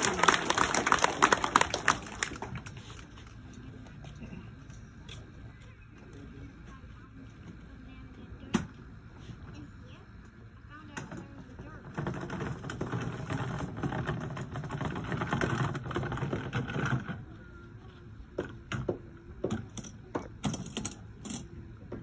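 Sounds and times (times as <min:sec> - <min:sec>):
murmur of outdoor crowd: 0:00.0 - 0:22.0.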